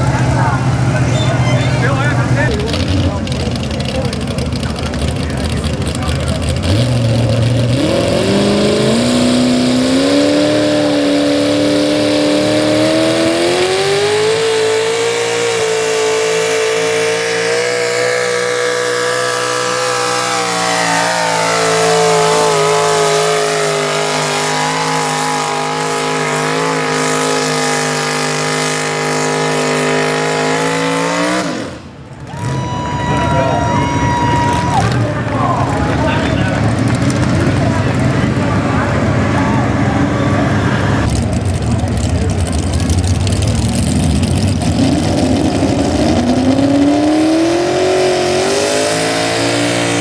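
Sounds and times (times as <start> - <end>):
truck engine at full throttle: 0.0 - 50.0.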